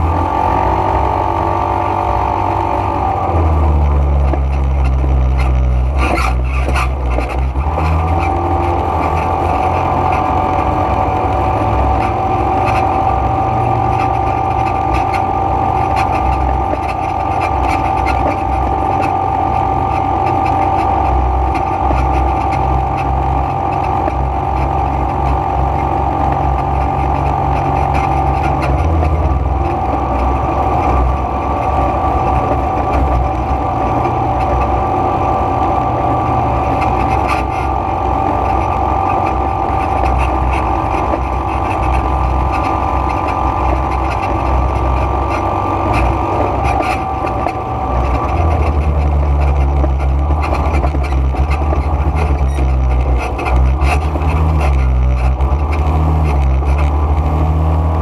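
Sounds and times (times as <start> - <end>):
quad bike engine droning: 0.0 - 58.0.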